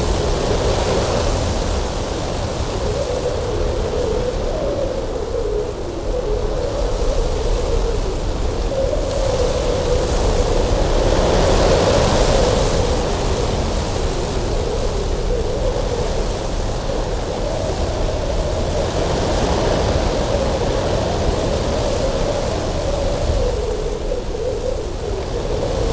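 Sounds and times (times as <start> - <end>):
strong wind howling: 0.0 - 25.9.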